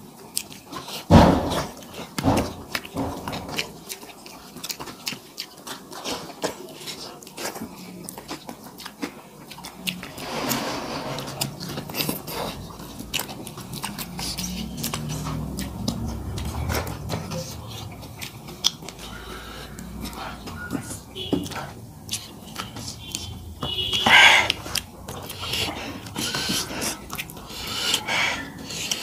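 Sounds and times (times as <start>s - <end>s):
wet chewing and lip-smacking: 0.0s - 1.1s, 1.7s - 10.1s, 11.3s - 29.0s.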